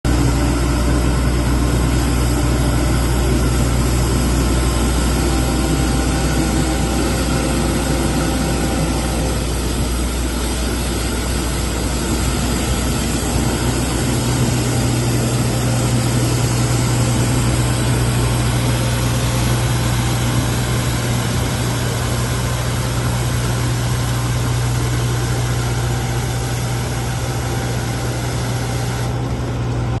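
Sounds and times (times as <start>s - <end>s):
street sweeper engine running: 0.1s - 30.0s.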